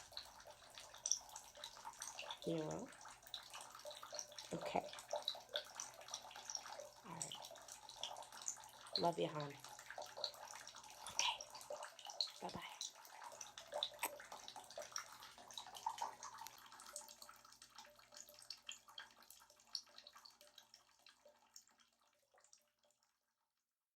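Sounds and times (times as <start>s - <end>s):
bathwater splashing and dripping: 0.0s - 23.2s.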